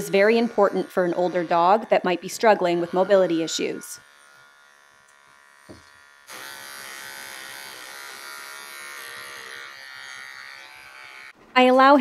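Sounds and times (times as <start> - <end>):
pet clippers buzzing: 0.0 - 11.4.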